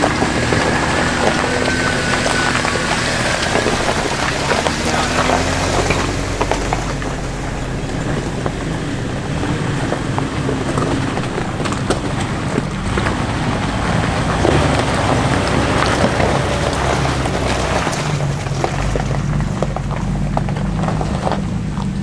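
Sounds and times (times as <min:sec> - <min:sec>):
knocks and rattles over bumps: 0:00.0 - 0:22.0
off-road vehicle engine running: 0:00.0 - 0:22.0.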